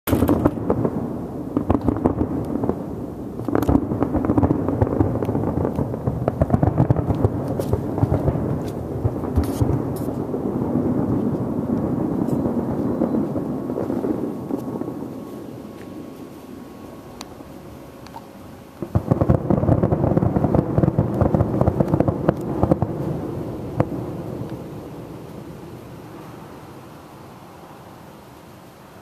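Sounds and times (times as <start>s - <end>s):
fireworks popping and banging: 0.1s - 16.6s, 17.2s - 25.4s
continuous noisy background: 0.1s - 29.0s.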